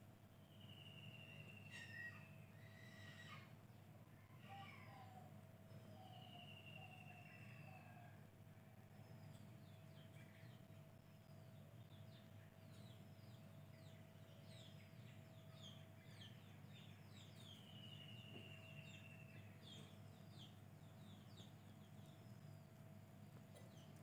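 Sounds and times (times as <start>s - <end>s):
faint birds chirping: 0.0s - 24.0s
steady low hum: 0.0s - 24.0s.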